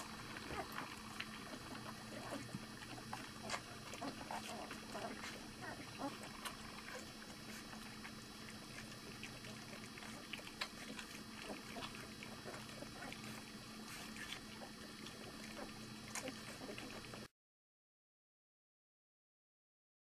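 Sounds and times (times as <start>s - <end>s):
puppies eating smacking and lapping: 0.0s - 17.3s.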